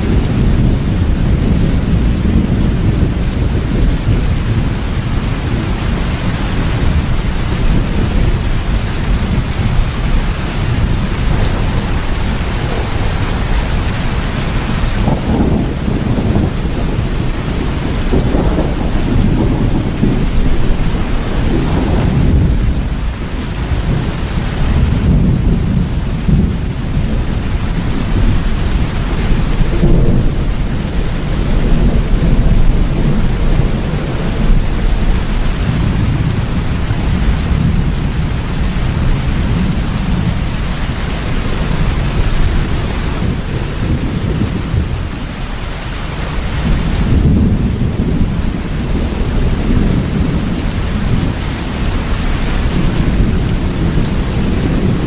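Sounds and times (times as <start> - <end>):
heavy rain: 0.0 - 55.0
low rolling thunder: 0.0 - 55.0.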